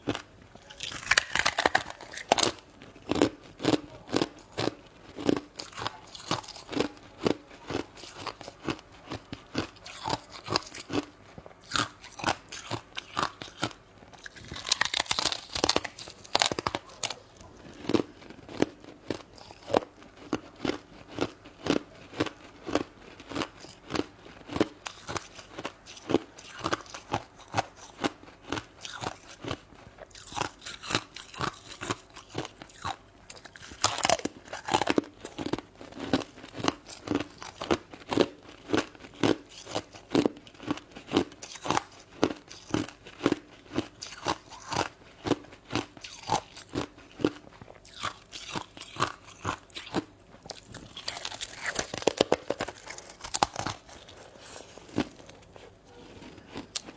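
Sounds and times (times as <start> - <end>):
chewing crunchy ice: 0.0 - 56.9.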